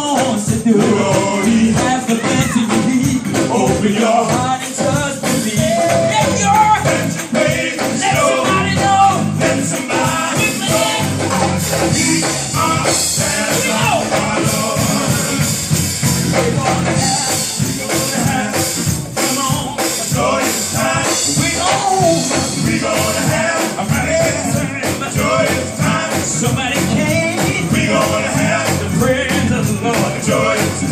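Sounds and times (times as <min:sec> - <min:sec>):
band playing upbeat: 0:00.0 - 0:30.9
tambourine: 0:00.0 - 0:30.9
choir singing: 0:00.4 - 0:30.9.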